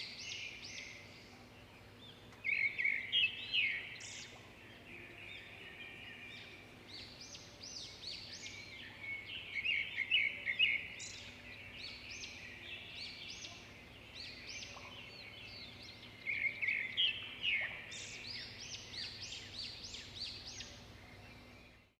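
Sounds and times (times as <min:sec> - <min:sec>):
small birds chirping and chattering: 0:00.0 - 0:21.9.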